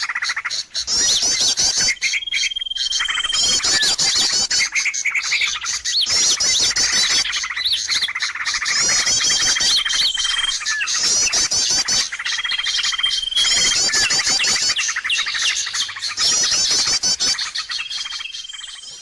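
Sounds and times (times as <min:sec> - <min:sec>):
small birds chirping chorus: 0:00.0 - 0:19.0
thin bird whistle: 0:00.8 - 0:08.1, 0:08.7 - 0:19.0.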